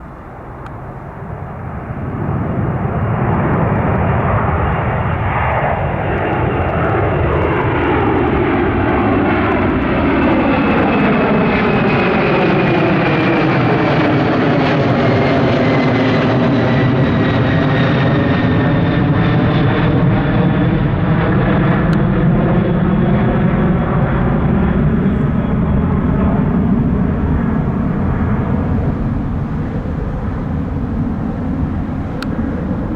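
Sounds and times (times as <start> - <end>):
jet airliner passing close: 0.0 - 32.9.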